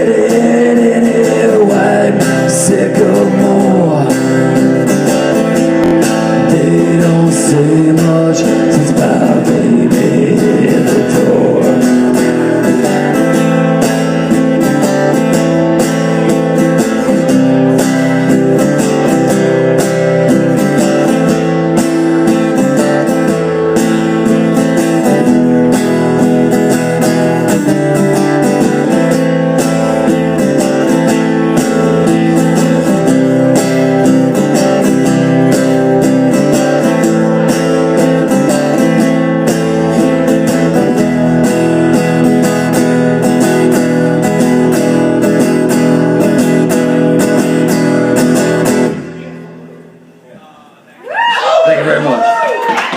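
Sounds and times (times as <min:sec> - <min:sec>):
blues guitar strummed and picked: 0:00.0 - 0:50.2.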